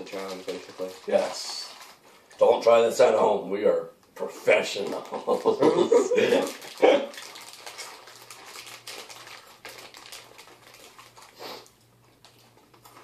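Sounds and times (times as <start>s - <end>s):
chips being chewed: 0.0s - 2.6s, 4.9s - 13.0s.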